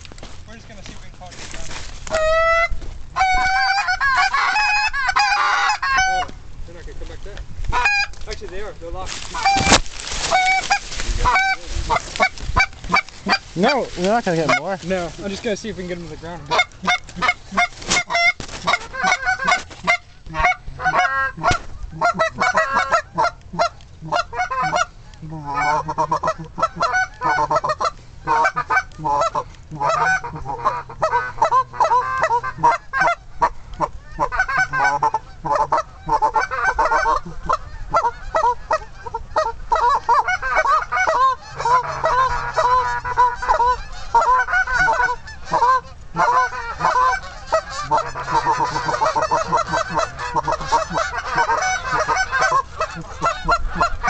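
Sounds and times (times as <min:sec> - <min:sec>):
goose honking and clucking: 0:00.0 - 0:06.4, 0:07.7 - 0:54.0.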